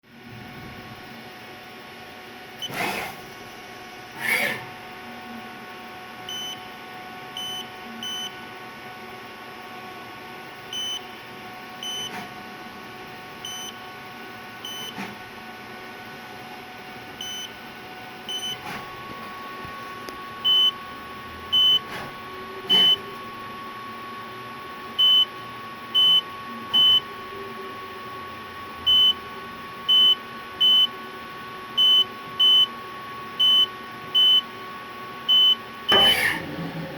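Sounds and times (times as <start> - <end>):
machine-shop hum: 0.0 - 36.9.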